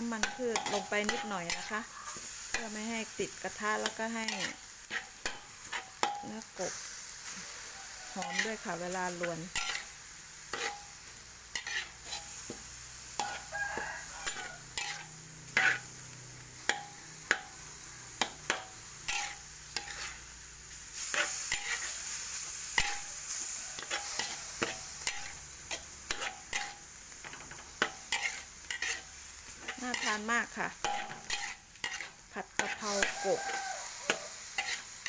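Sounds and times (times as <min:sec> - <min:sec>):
meat sizzling: 0:00.0 - 0:35.0
metal spatula scraping a wok: 0:00.0 - 0:35.0.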